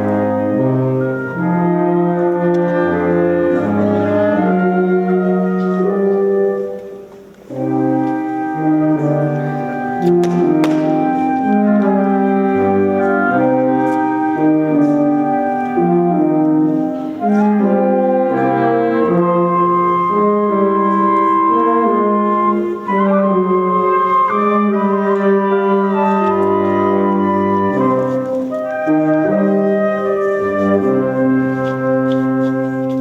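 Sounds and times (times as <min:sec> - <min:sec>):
wind band playing slow chords: 0:00.0 - 0:33.0.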